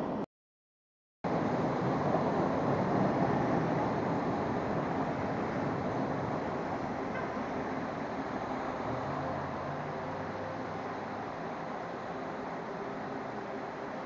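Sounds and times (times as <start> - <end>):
rain: 1.3 - 14.0
tyres hissing on wet pavement: 1.3 - 14.0.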